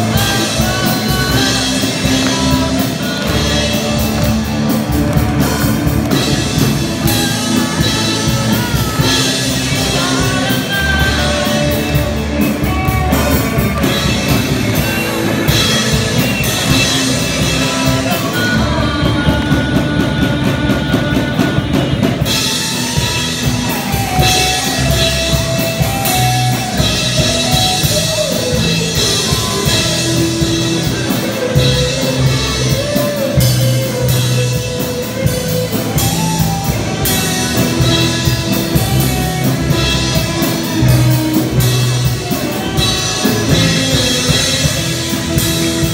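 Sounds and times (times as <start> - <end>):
bass guitar: 0.0 - 45.9
drum kit beat: 0.0 - 45.9
electric guitars: 0.0 - 45.9.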